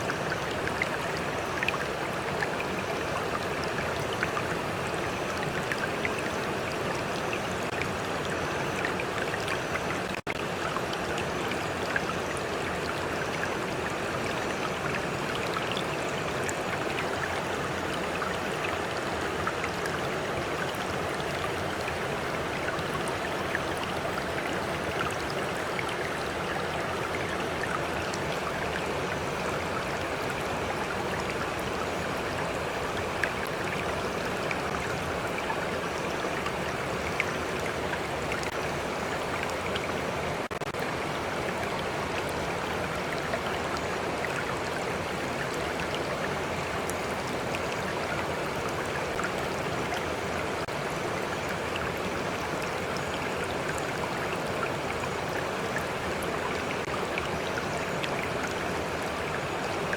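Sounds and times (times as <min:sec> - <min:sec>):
small water splashes and drips: 0:00.0 - 0:59.9
stream water flowing: 0:00.0 - 0:59.9.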